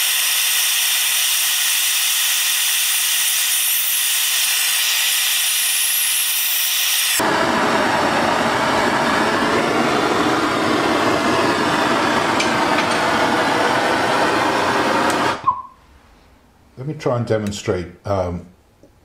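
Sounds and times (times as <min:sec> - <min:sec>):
gas torch hissing: 0:00.0 - 0:15.6.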